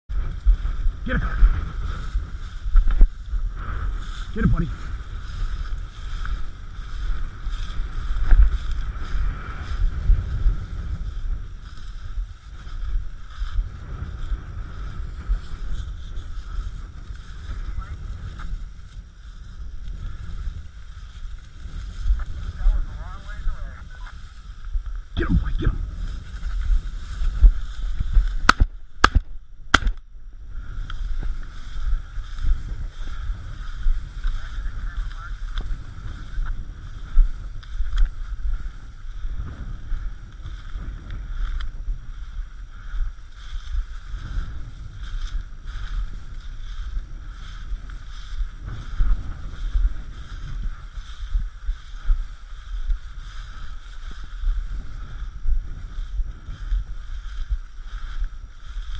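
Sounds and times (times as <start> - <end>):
dry grass rustling: 0.1 - 58.9
wind buffeting microphone: 0.1 - 58.9.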